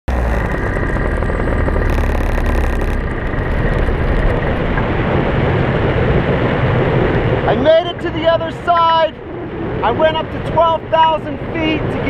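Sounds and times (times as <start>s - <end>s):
paramotor engine drone: 0.0s - 12.0s.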